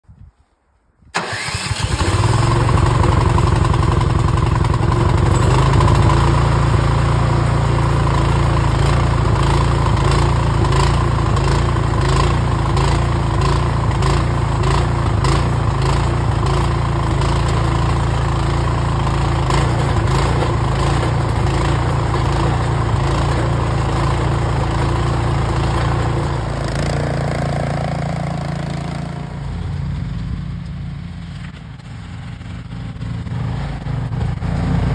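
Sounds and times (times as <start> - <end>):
snow blower engine running: 1.2 - 34.9.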